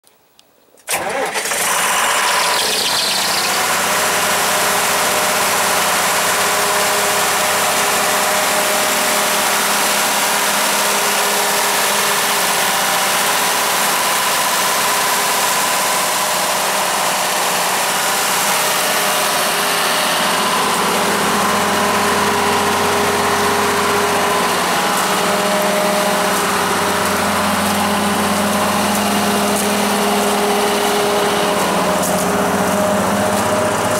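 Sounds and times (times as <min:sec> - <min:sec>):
diesel generator running: 0:00.9 - 0:33.9.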